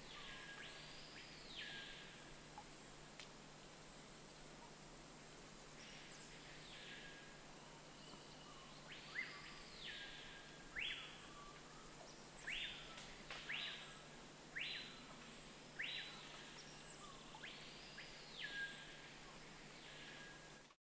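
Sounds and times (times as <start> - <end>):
faint background hiss: 0.0 - 20.8.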